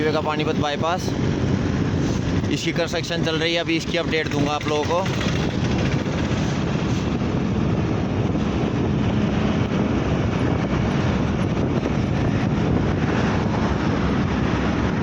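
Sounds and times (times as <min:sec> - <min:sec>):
moving vehicle rush: 0:00.0 - 0:15.0.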